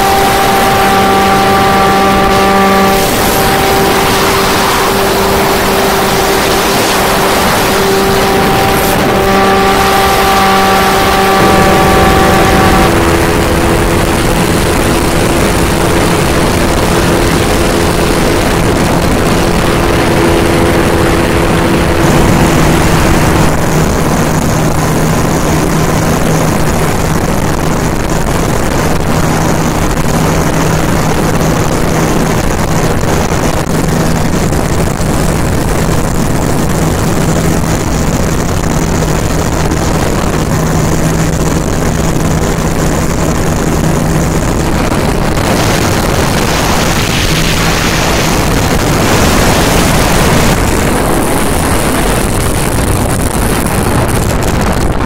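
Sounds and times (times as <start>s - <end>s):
light aircraft engine drone: 0.0s - 55.0s
rushing air: 0.0s - 55.0s.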